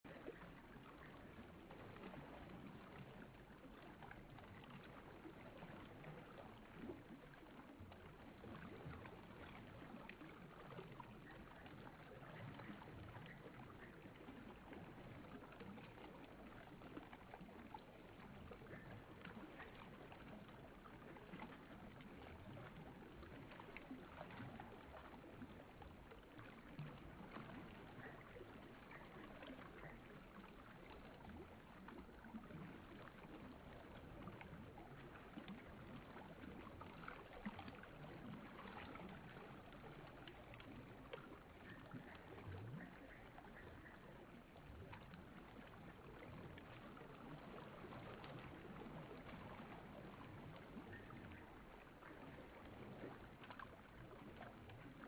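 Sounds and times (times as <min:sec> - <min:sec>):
river water over rocks: 0:00.1 - 0:55.0.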